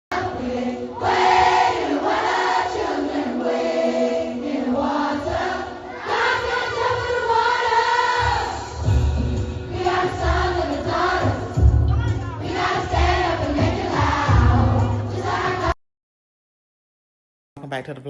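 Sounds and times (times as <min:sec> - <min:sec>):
gospel choir singing: 0:00.1 - 0:15.8.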